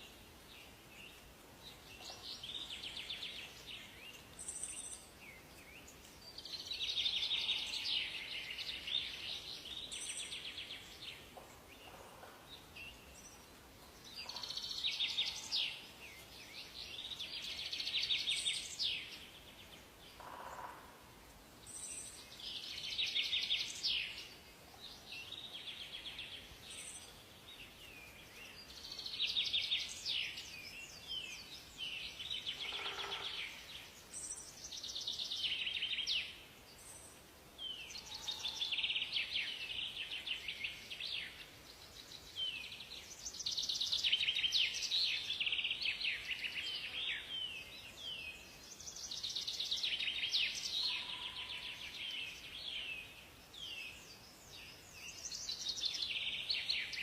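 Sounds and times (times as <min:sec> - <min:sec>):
faint forest hiss: 0:00.0 - 0:57.0.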